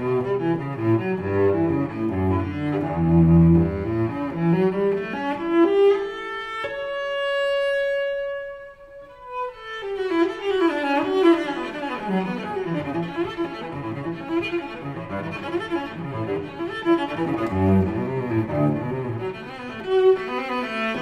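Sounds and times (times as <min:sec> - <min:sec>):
classical string music: 0:00.0 - 0:21.0.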